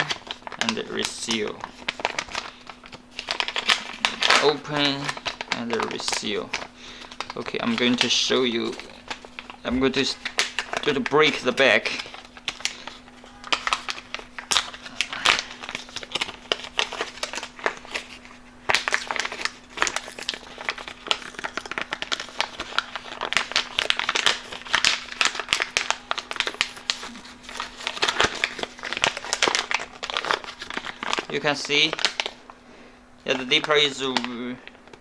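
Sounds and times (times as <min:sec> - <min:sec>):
plastic film crinkling: 0:00.0 - 0:32.6.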